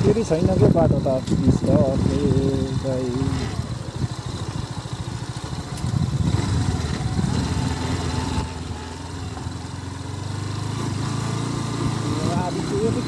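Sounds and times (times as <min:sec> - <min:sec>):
small engine running low speed: 0:00.0 - 0:13.0.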